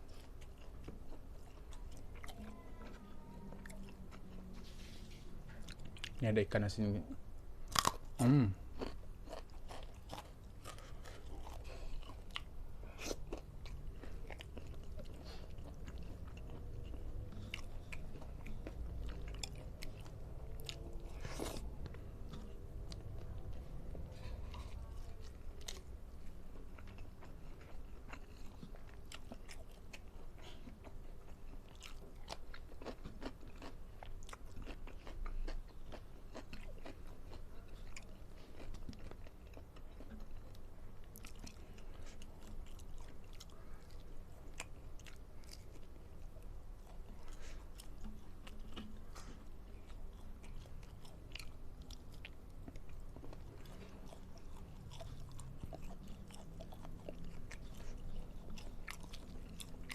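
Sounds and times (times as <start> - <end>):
person chewing food: 0.0 - 6.2, 7.1 - 59.9.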